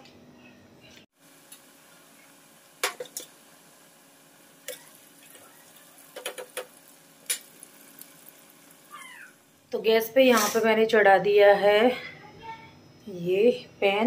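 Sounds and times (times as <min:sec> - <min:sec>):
faint steady background noise: 0:00.0 - 0:14.0.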